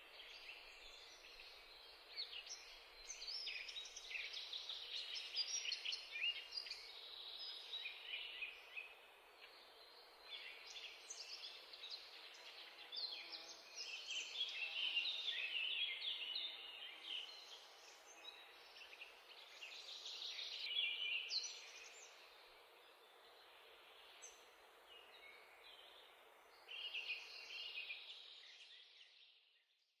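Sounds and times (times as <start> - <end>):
small birds chirping: 0.0 - 29.6.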